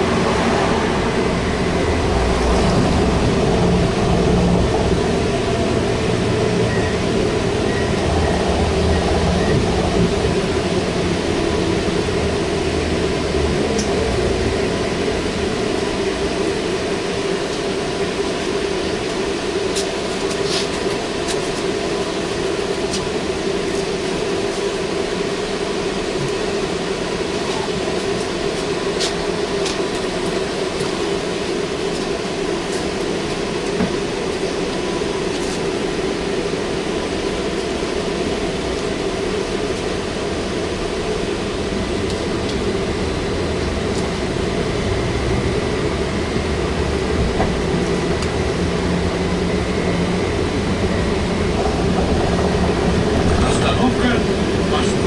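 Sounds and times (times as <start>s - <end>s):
road noise: 0.0s - 55.0s
trolleybus interior hum: 0.0s - 55.0s.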